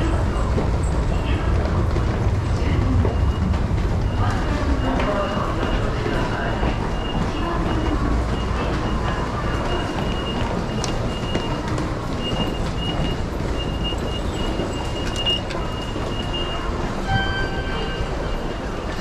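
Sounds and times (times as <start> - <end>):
low rumble of trains: 0.0 - 19.0.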